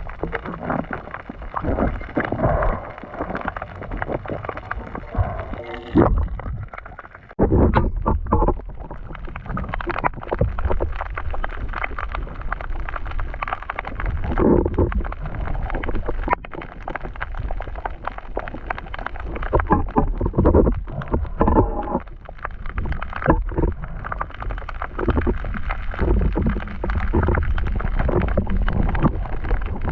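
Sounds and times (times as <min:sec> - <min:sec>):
underwater low rumble: 0:00.0 - 0:29.9
water bubbling and sloshing: 0:00.0 - 0:29.9.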